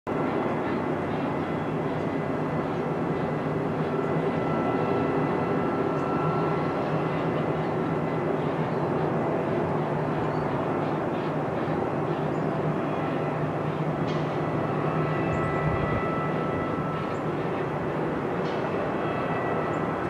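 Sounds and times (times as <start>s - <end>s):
faint engine whine: 0.1s - 20.0s
jet engines rumbling: 0.1s - 20.0s.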